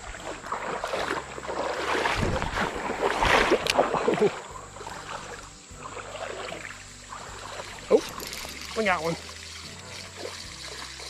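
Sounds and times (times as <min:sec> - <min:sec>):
creek water splashing: 0:00.0 - 0:11.0.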